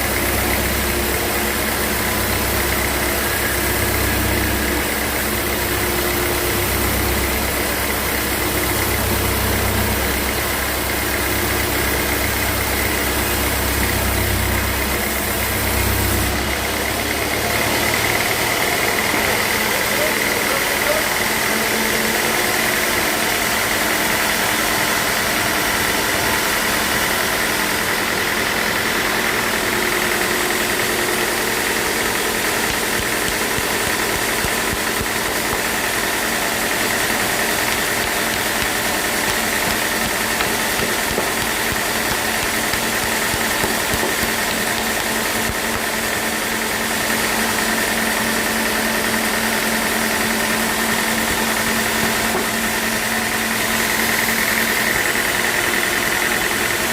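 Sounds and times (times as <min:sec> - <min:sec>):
sawmill machinery whining: 0:00.0 - 0:56.9.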